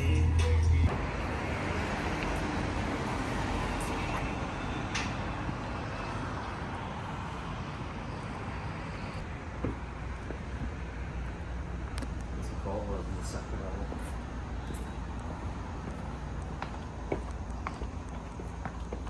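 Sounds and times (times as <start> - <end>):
traffic road noise: 0.0 - 19.0.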